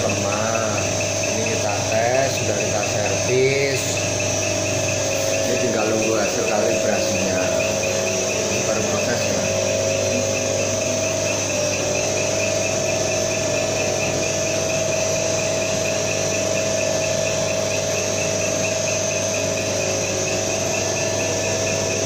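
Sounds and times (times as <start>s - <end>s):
diesel engine test bench hum: 0.0s - 22.0s.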